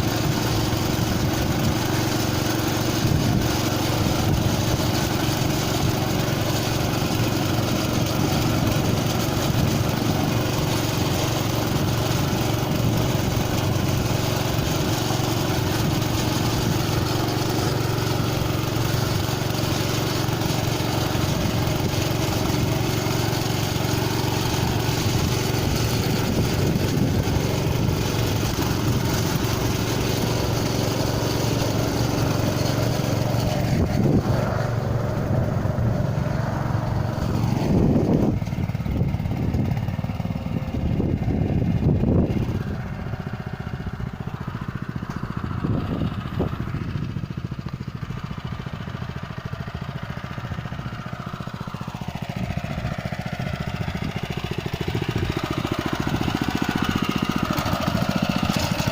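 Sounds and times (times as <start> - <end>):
small engine running: 0.0 - 58.9.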